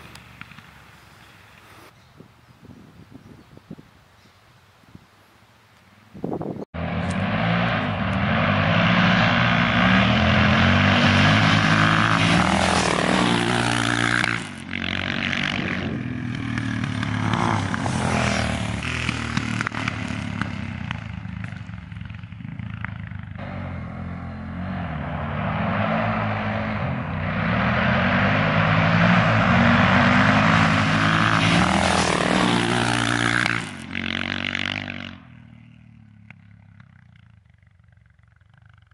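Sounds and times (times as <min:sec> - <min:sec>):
motorcycle engines revving: 0:06.7 - 0:38.9.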